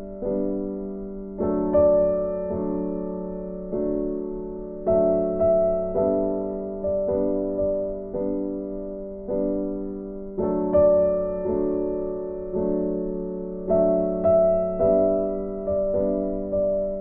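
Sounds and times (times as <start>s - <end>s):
soft keyboard chords: 0.0s - 17.0s.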